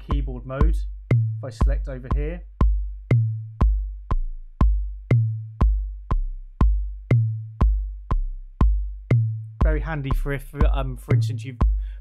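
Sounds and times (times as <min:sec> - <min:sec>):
looping kick drum pattern: 0:00.0 - 0:12.0.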